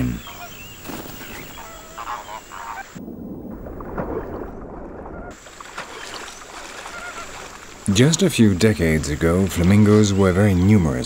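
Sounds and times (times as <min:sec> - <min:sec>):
flamingos honking: 0:00.0 - 0:03.0, 0:05.0 - 0:11.0.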